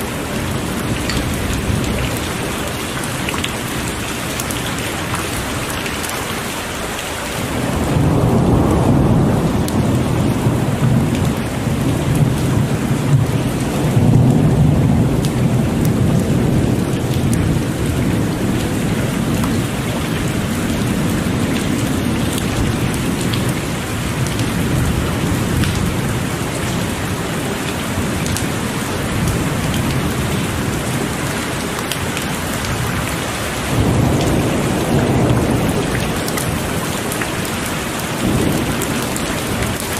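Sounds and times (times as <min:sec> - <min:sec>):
heavy rain pouring: 0:00.0 - 0:39.9
rolling thunder rumbling: 0:07.3 - 0:39.9.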